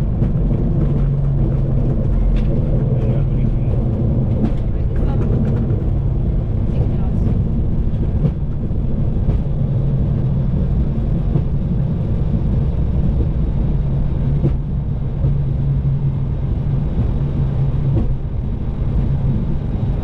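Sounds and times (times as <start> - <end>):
aircraft engines idling rumble: 0.0 - 20.0.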